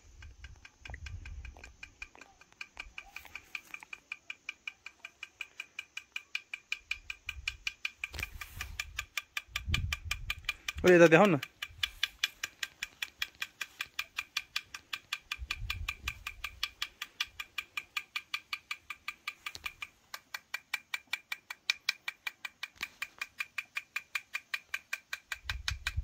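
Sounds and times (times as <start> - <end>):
steady sharp clicks: 0.0 - 26.0.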